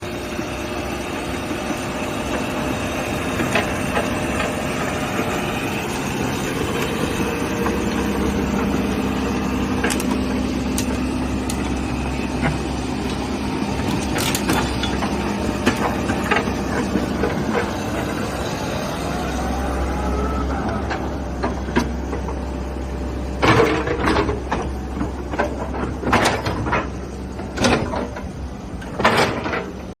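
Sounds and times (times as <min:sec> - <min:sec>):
excavator diesel engine running: 0:00.0 - 0:30.0
hydraulic whine: 0:00.0 - 0:30.0.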